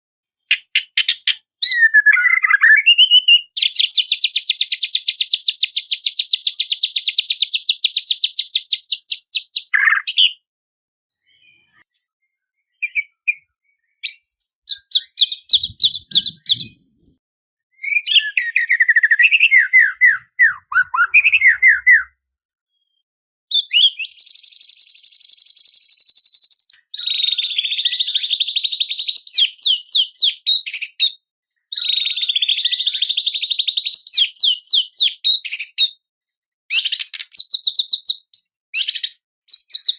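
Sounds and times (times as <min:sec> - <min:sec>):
songbird singing: 0:00.5 - 0:10.5, 0:11.2 - 0:22.1, 0:22.7 - 0:31.1, 0:31.8 - 0:35.8.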